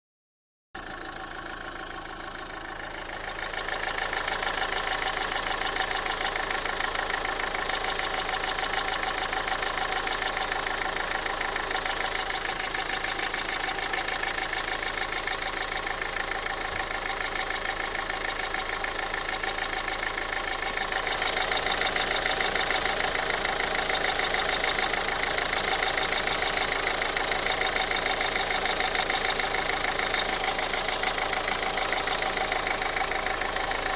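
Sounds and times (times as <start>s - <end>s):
diesel engine idling with clatter: 0.8s - 33.9s.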